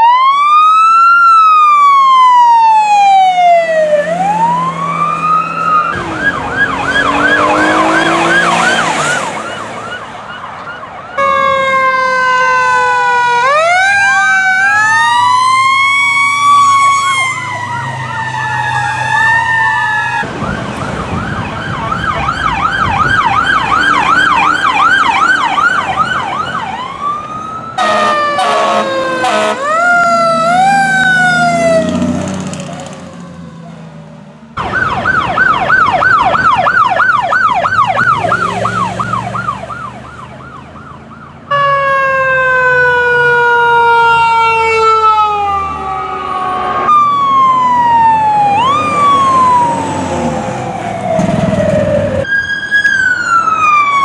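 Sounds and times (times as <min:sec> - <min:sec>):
rapidly pulsing siren: 0:00.0 - 0:31.9, 0:34.6 - 0:54.0
ambulance siren wailing and yelping: 0:00.0 - 0:33.8, 0:34.6 - 0:54.0
fire engine siren: 0:00.0 - 0:54.0.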